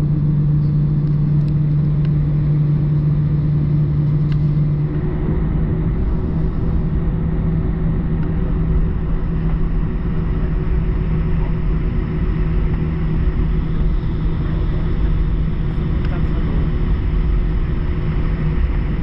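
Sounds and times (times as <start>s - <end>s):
aircraft cabin hum: 0.0s - 19.0s
low steady drone: 0.0s - 19.0s.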